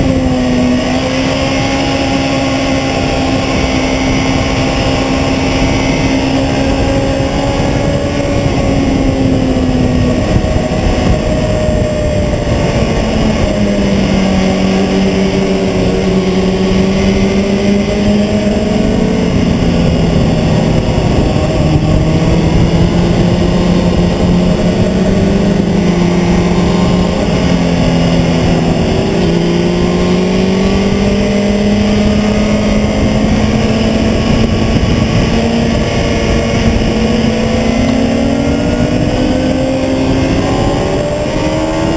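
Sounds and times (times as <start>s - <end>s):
motorcycle engine revving: 0.0s - 41.9s
wind rushing: 0.0s - 41.9s.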